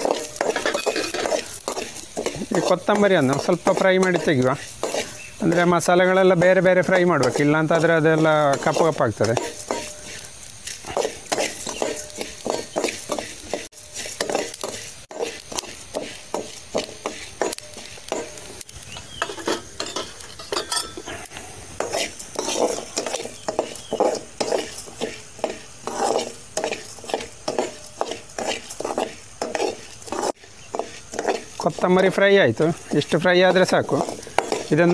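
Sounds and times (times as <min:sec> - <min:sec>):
metal spoon scraping pan: 0:00.0 - 0:34.9
seeds sizzling in oil: 0:00.0 - 0:34.9.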